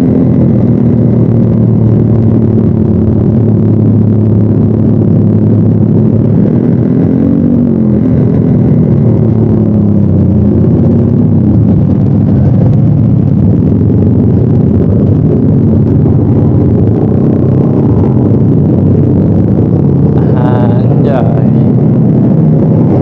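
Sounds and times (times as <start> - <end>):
scooter engine droning: 0.0 - 23.0.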